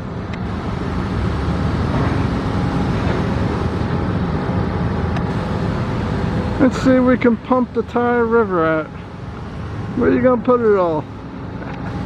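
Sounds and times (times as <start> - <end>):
water pump droning: 0.0 - 12.0.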